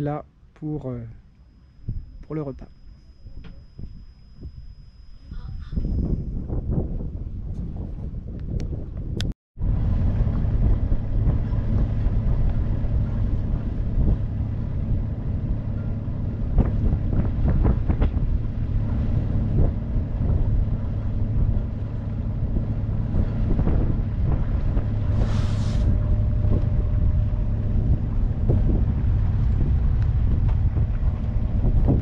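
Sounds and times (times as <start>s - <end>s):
boat engine humming: 0.0s - 8.9s, 9.6s - 32.0s
wind buffeting microphone: 1.8s - 32.0s.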